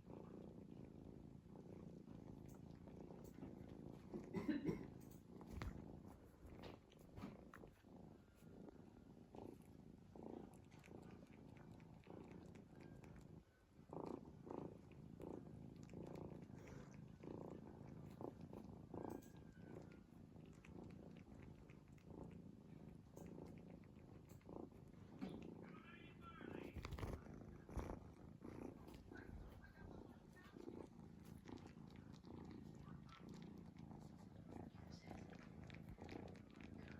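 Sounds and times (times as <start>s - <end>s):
cat snoring: 0.0s - 36.9s.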